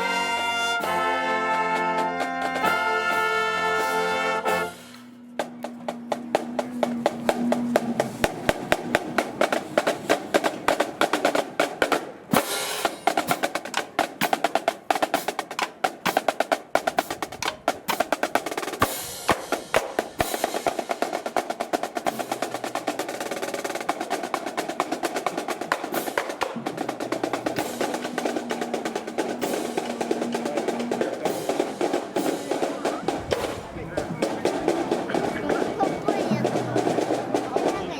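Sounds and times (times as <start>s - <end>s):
snare drum rolls: 0.0s - 37.9s.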